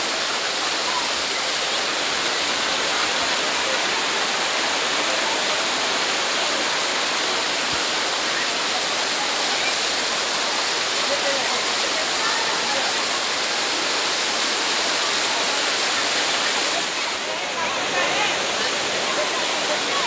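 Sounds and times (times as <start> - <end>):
waterfall pouring over rock: 0.0 - 20.0.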